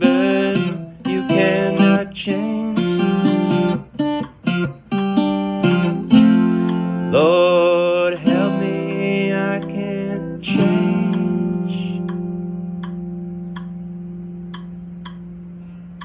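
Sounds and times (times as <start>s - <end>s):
acoustic guitar picked melody: 0.0s - 16.0s.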